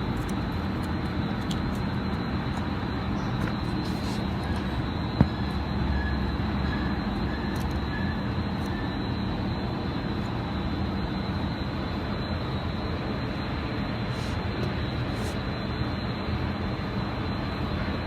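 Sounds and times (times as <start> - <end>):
engine-like running rumble with hiss: 0.0 - 18.0.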